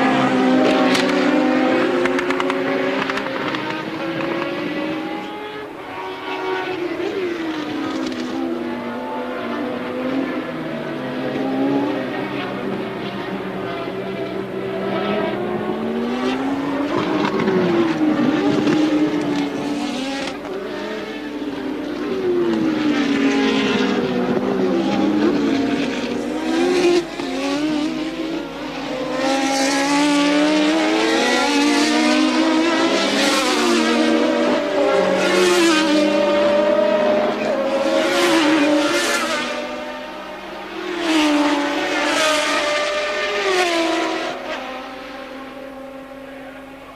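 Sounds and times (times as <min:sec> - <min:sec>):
racing car engines accelerating: 0:00.0 - 0:46.9.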